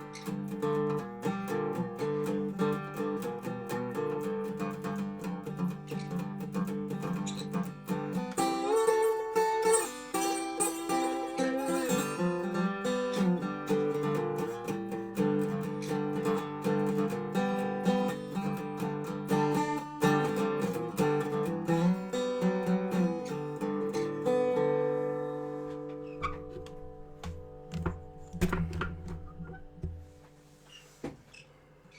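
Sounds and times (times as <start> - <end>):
resonator guitar blues slide: 0.0 - 30.3.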